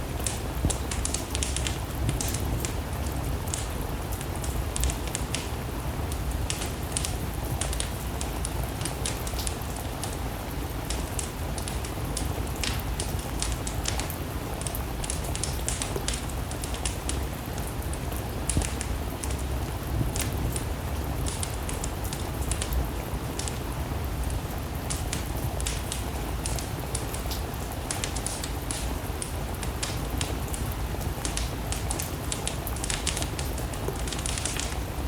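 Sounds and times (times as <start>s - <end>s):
steady rain: 0.0s - 35.0s
wood fire crackling and popping: 0.0s - 35.0s.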